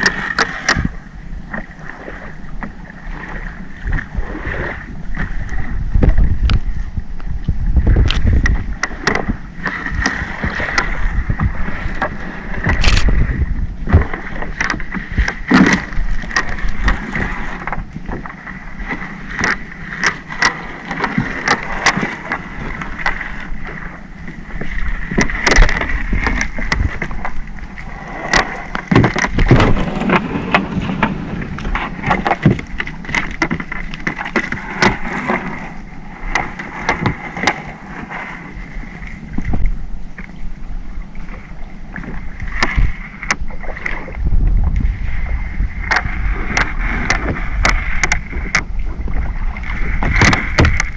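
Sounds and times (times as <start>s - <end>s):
boat engine hum with whine: 0.0s - 50.9s.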